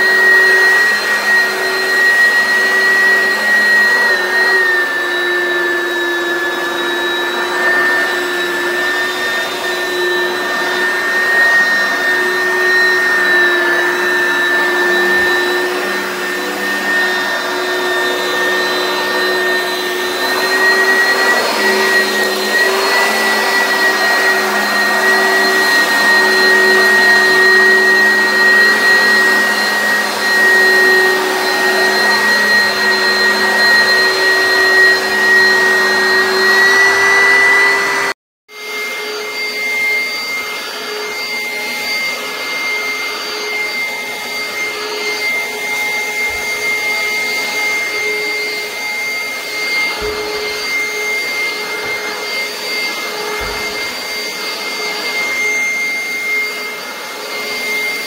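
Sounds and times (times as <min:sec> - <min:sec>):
vacuum cleaner motor whine: 0:00.0 - 0:58.0.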